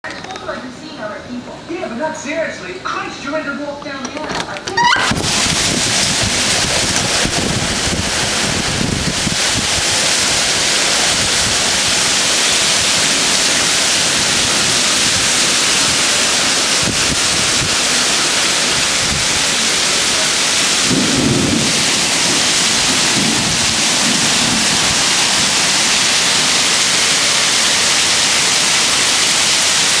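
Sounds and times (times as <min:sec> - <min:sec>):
heavy rain pouring: 0:04.1 - 0:30.0
thunder rumbling: 0:04.8 - 0:30.0.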